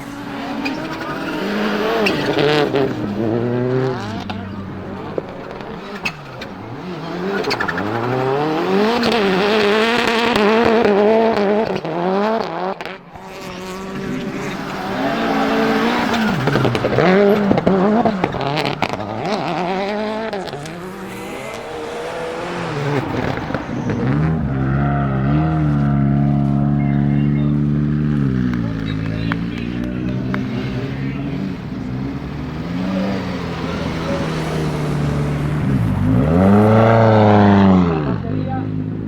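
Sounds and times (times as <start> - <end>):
turbocharged car engine revving: 0.0 - 39.0.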